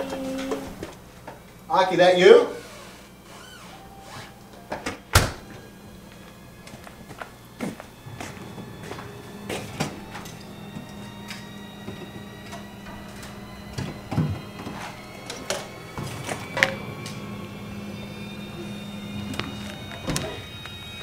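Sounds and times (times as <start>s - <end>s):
refrigerator hum: 0.0s - 21.0s.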